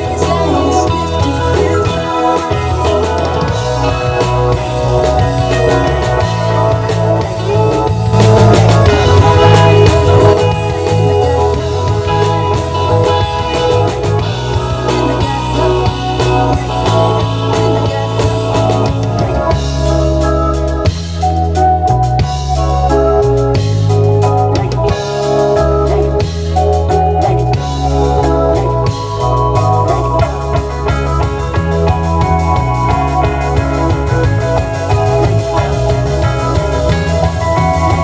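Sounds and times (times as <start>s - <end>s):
bass line: 0.0s - 38.0s
drum kit: 0.0s - 38.0s
guitar: 0.0s - 38.0s.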